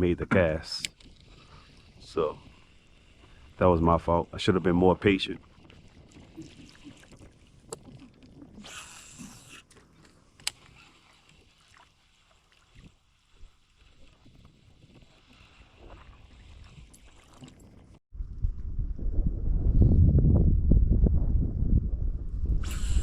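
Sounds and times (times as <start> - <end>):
faint water noise: 0.0 - 18.8.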